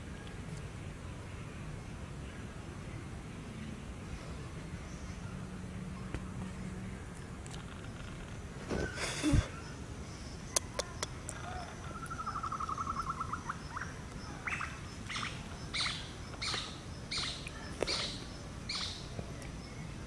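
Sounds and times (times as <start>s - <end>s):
faint insect chirping: 0.0s - 20.0s
birds calling: 1.8s - 20.0s.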